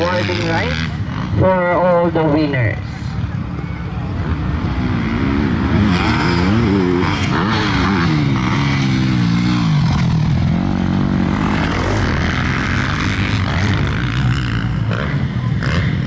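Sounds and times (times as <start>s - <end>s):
motocross bike engines racing: 0.0s - 16.0s.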